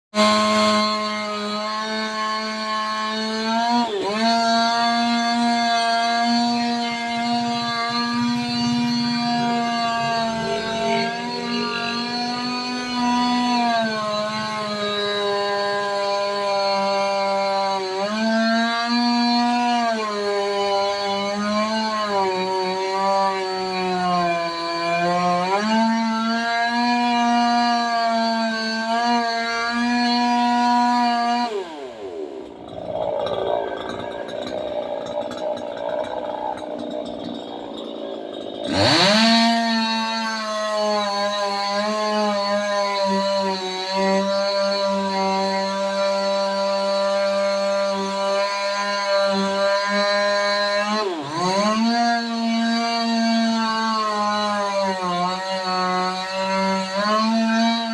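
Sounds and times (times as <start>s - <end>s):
chainsaw cutting wood: 0.1s - 57.9s.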